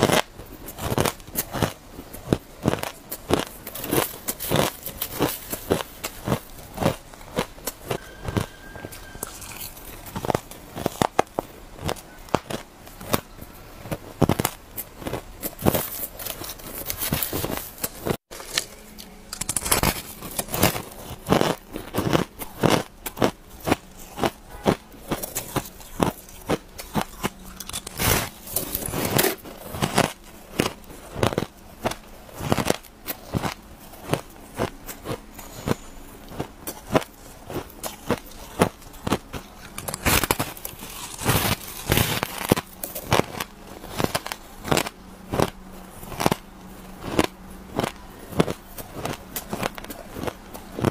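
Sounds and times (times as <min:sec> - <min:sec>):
chewing shaved ice: 0:00.0 - 0:50.9.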